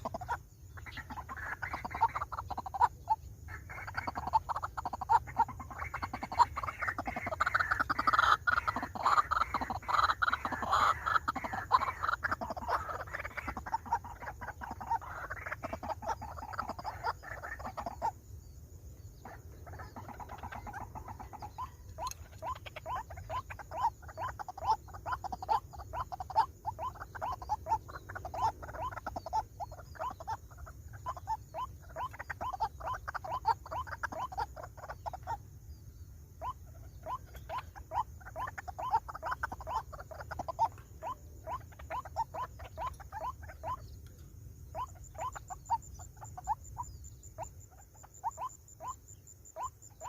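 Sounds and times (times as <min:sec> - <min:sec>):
waterhens calling: 0:00.0 - 0:18.3, 0:19.1 - 0:35.4, 0:36.4 - 0:50.0.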